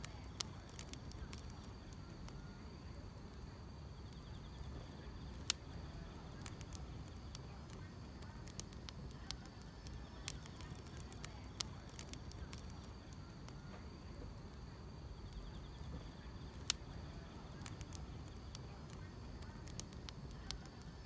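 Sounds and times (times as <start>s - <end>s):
wood fire crackling: 0.0s - 21.0s
grass insects trilling: 3.9s - 21.0s.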